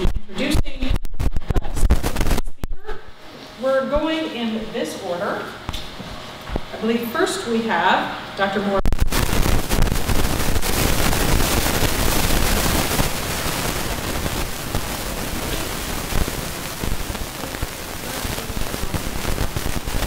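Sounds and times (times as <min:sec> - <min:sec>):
loud static hiss with crackle: 0:00.0 - 0:20.0.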